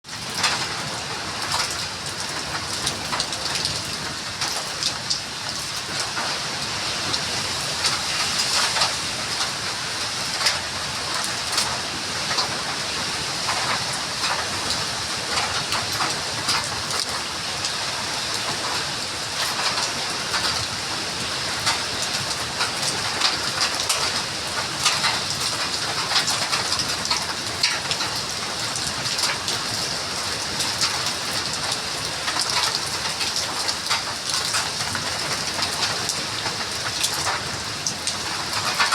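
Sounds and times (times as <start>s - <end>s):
raindrops hitting: 0.0s - 38.9s
steady rain: 0.0s - 38.9s.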